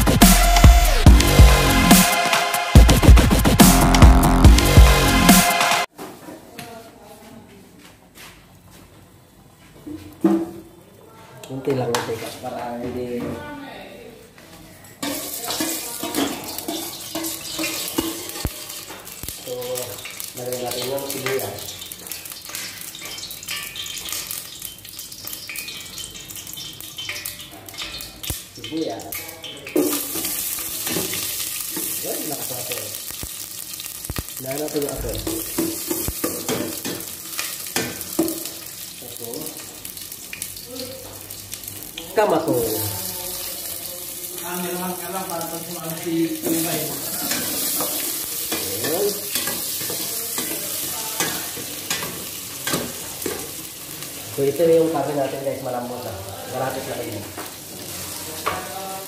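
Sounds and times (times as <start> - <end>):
food sizzling and bubbling in a pot: 8.4 - 13.2, 14.4 - 59.0.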